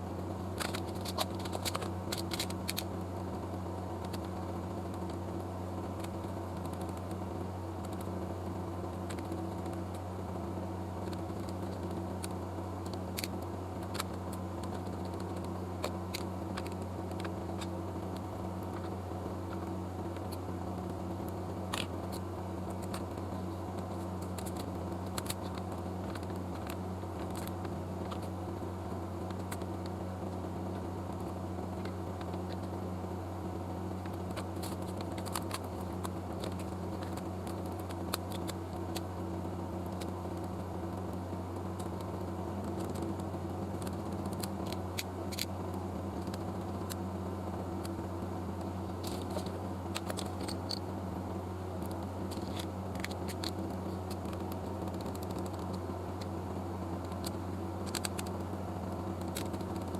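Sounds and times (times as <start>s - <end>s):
low electrical hum: 0.0s - 59.9s
faint clicks and ticks: 0.4s - 59.9s.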